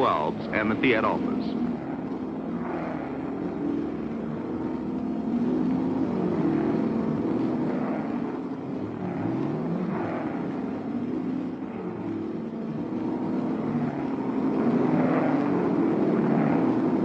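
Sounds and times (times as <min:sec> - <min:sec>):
racing car accelerating: 0:00.0 - 0:17.0
racing car engines: 0:00.0 - 0:17.0.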